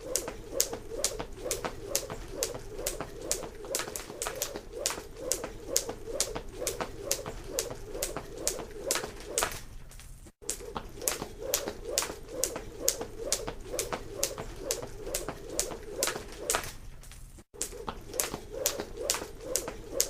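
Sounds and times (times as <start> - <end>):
jump rope slapping floor: 0.0 - 9.7, 10.4 - 16.8, 17.6 - 20.0
whir of rope: 0.0 - 20.0.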